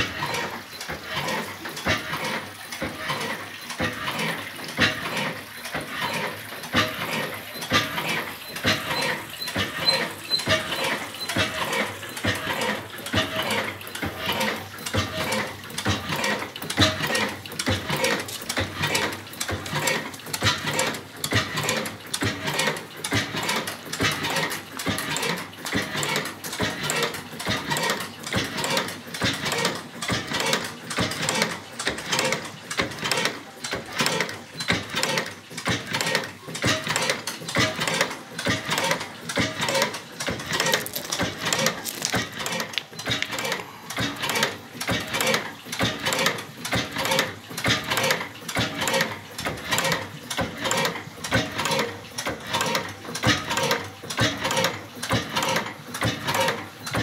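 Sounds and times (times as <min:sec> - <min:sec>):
oil engine clattering: 0:00.0 - 0:57.0.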